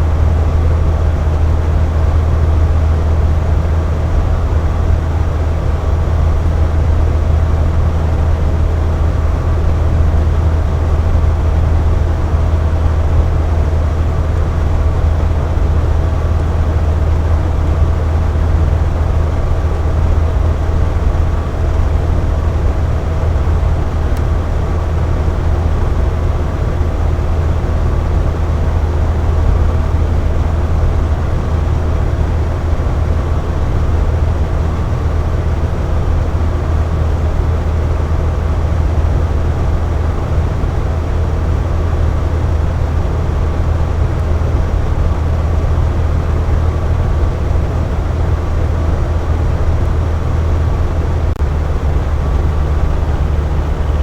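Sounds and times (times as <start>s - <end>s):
box fan running: 0.0s - 54.0s.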